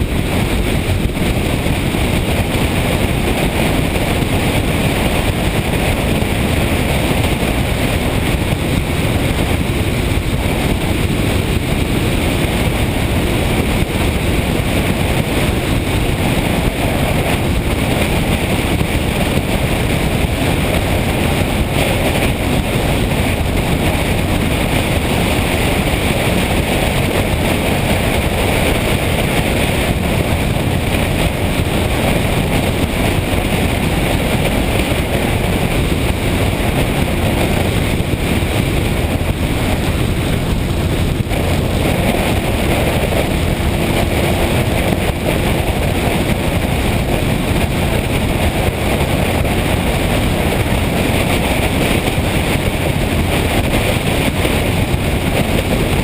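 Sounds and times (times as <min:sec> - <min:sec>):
motorcycle running: 0:00.0 - 0:56.0
wind rush on microphone: 0:00.0 - 0:56.0.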